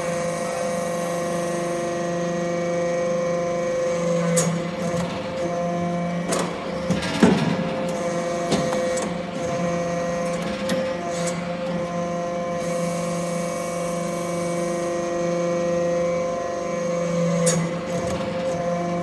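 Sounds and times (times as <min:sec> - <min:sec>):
hydraulic power unit hum: 0:00.0 - 0:19.0.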